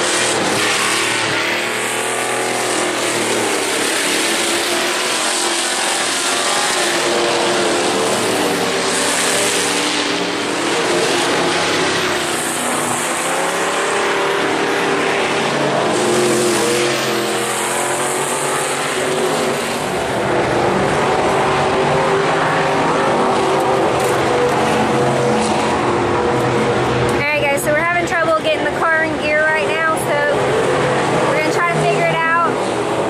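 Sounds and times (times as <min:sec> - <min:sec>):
drone of distant race cars: 0:00.0 - 0:33.0
race car engines passing: 0:00.0 - 0:33.0.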